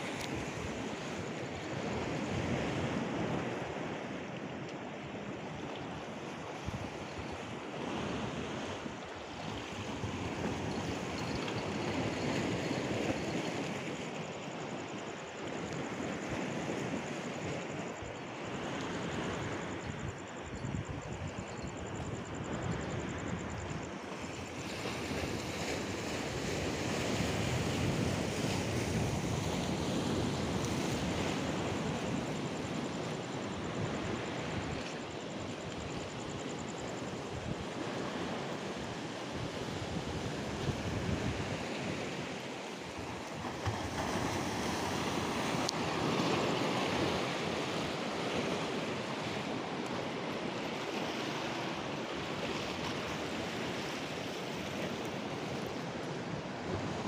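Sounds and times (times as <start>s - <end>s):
sea surf washing ashore: 0.0s - 57.0s
wind on microphone: 6.4s - 57.0s.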